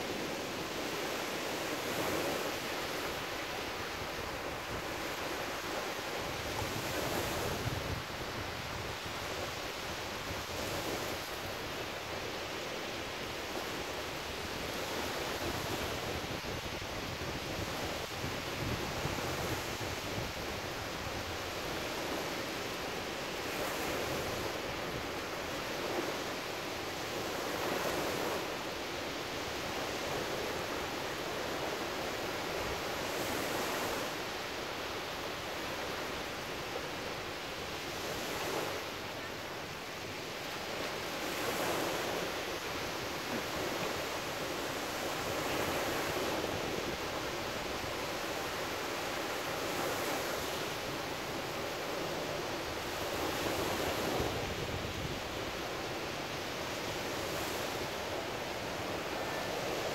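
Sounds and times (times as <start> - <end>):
small waves breaking on shore: 0.0 - 59.9.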